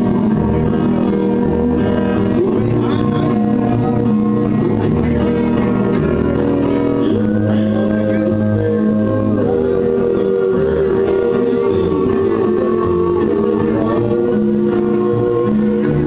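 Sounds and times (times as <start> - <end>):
country backing track through pa: 0.0 - 16.0
man singing into microphone: 0.8 - 16.0.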